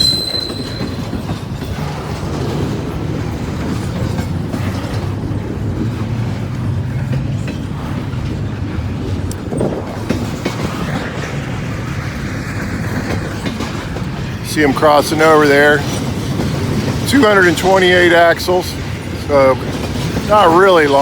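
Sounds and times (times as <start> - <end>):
freight train rumbling past: 0.0 - 21.0
train wheels clacking on track: 0.0 - 21.0.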